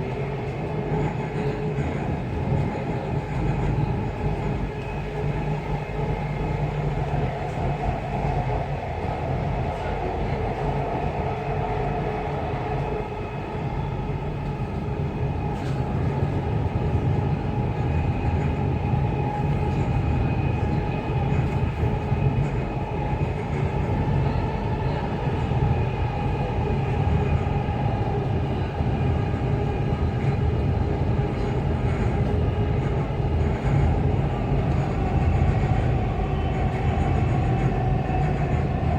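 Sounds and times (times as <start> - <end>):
train rail rumble: 0.0 - 38.9.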